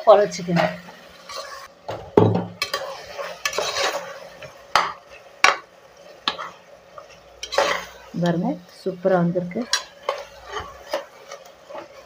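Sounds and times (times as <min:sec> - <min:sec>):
spoon stirring and scraping vegetables: 0:00.3 - 0:12.0.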